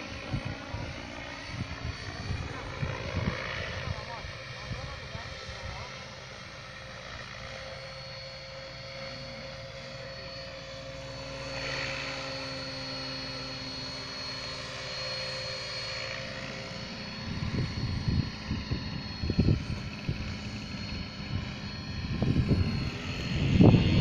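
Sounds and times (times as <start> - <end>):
model helicopter rotor whine: 0.0 - 24.0.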